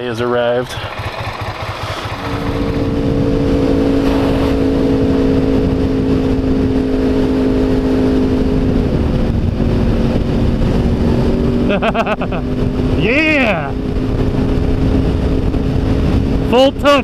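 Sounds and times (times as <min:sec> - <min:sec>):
motorcycle engine cruising: 0:00.0 - 0:17.0
rushing wind: 0:00.0 - 0:17.0.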